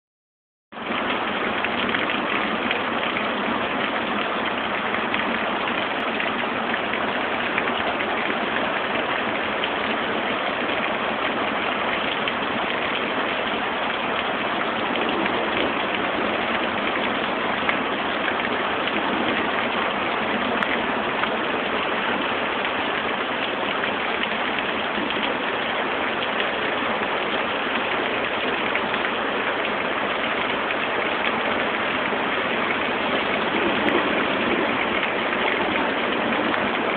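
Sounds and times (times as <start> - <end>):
heavy rain hissing: 1.2 - 36.9.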